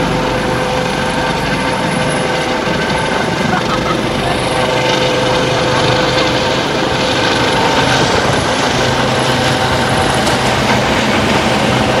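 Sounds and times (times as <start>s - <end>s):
helicopter engine whine: 0.0s - 12.0s
helicopter rotor beat: 0.0s - 12.0s.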